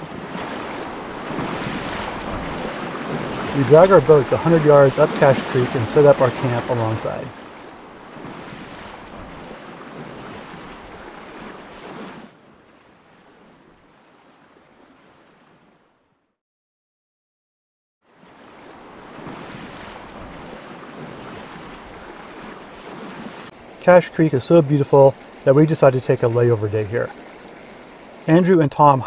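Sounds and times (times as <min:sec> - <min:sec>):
river water flowing: 0:00.0 - 0:15.8, 0:18.1 - 0:29.0.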